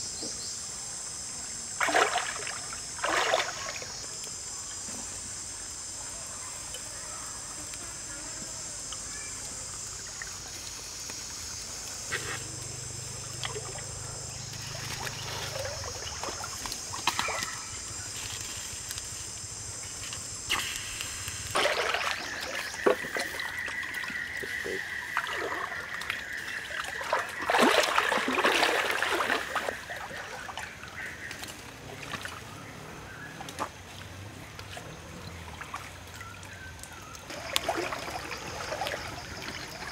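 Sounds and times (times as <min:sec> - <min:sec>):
stream trickling and splashing: 0:01.7 - 0:04.5, 0:08.8 - 0:39.9.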